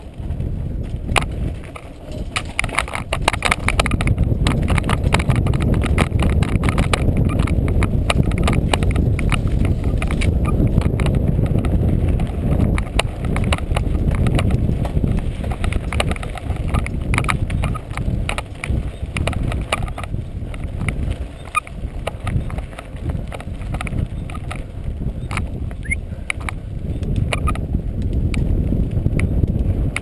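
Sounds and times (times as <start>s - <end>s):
bike rattling over stones: 0.0s - 30.0s
low rumble of tyres and wind: 0.0s - 30.0s.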